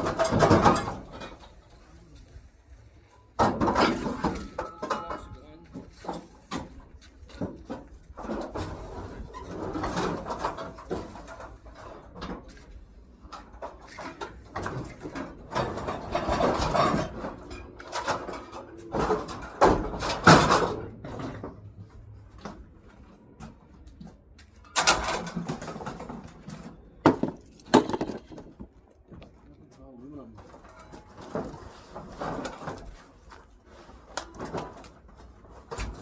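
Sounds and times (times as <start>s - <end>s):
scrap metal clanking and scraping: 0.0s - 29.2s, 30.3s - 36.0s.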